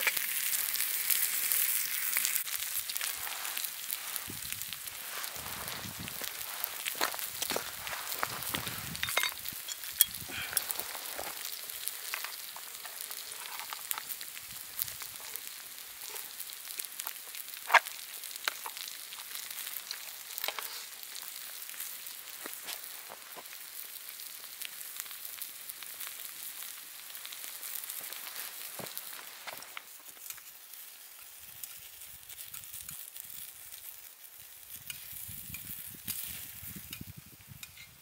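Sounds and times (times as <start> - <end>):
bacon sizzling in a frying pan: 0.0 - 38.0.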